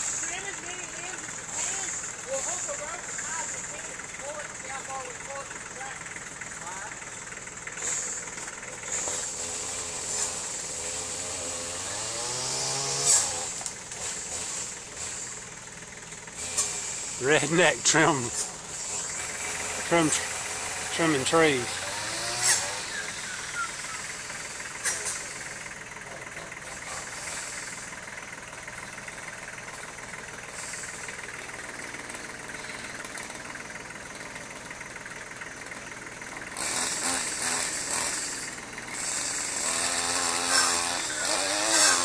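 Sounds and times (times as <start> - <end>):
small engine idling and revving: 0.0 - 42.0.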